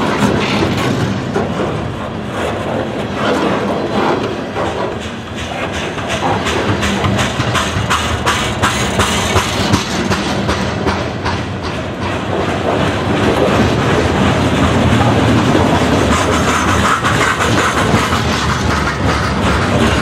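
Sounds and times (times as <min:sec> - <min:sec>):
freight train wheel rumble: 0:00.0 - 0:20.0
wheels clacking over rail joints: 0:00.0 - 0:20.0.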